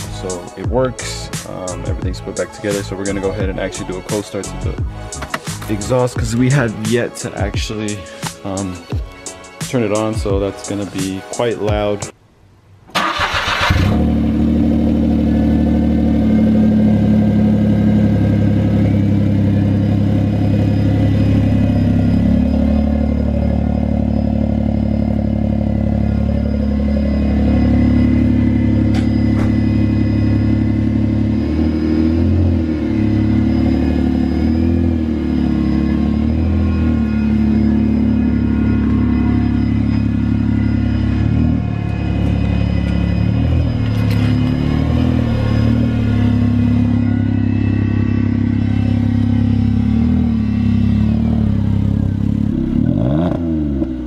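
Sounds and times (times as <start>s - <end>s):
car engine running: 0.0s - 6.8s, 13.6s - 54.0s.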